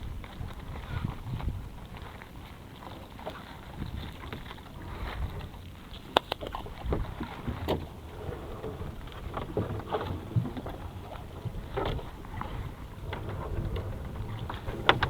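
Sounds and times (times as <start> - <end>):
wind buffeting microphone: 0.0 - 2.8, 3.4 - 15.0.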